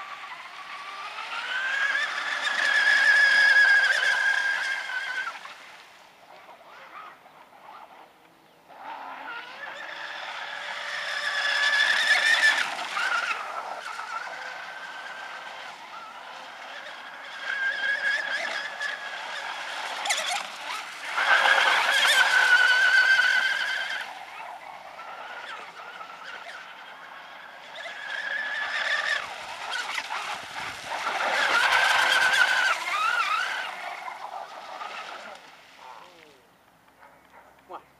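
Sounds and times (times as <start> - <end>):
boat hull and spray noise: 0.0 - 37.0.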